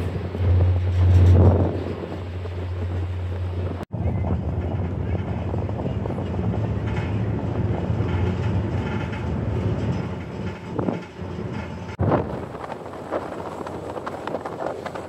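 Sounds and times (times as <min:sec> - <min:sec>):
ferry engine low rumble: 0:00.0 - 0:15.0.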